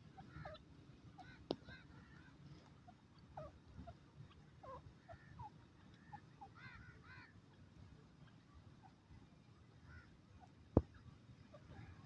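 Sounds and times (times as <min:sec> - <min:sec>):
francolin calls: 0:00.0 - 0:12.0.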